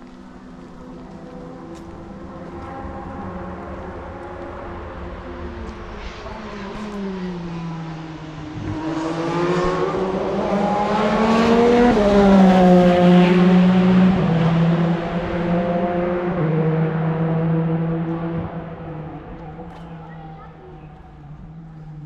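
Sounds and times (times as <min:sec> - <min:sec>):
racing car engine passing: 0:00.1 - 0:22.0.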